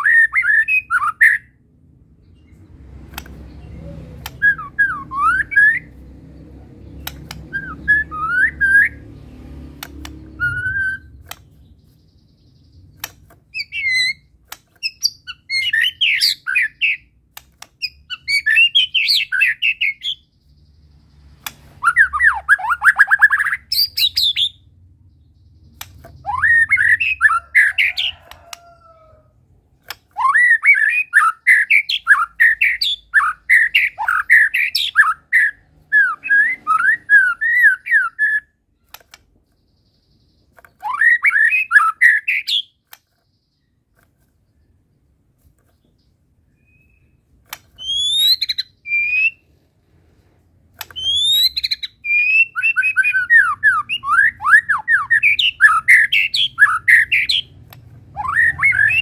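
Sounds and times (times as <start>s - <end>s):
songbird singing varied song: 2.1s - 28.8s, 29.8s - 45.1s, 45.7s - 49.6s, 50.8s - 59.0s.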